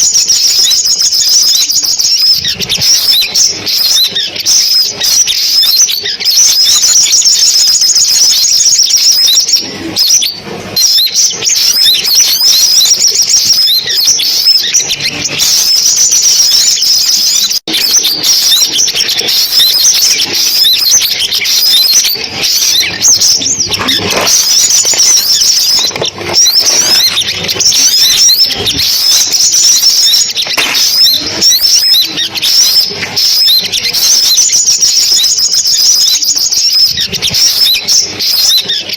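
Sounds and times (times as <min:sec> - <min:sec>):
sunbird chirps and twitters: 0:00.0 - 0:38.9.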